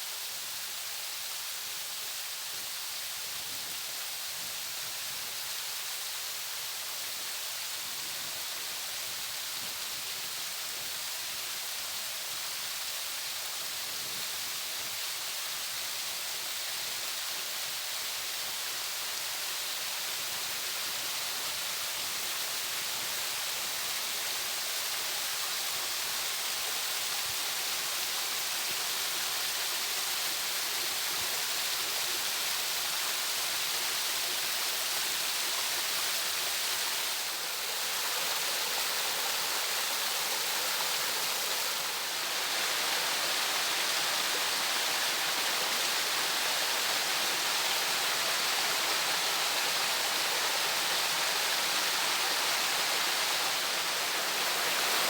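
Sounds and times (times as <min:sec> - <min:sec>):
water cascading over rocks: 0:00.0 - 0:55.0.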